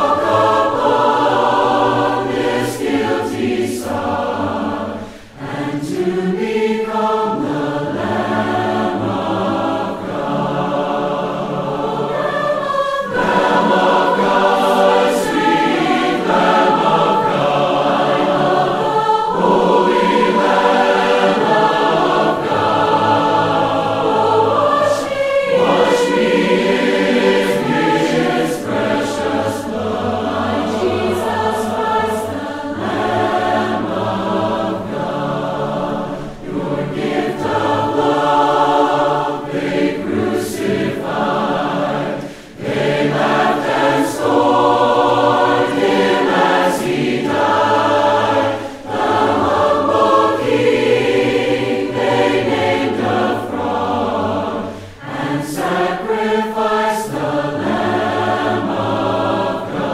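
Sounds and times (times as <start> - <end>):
vocal ensemble singing a hymn: 0.0 - 59.9.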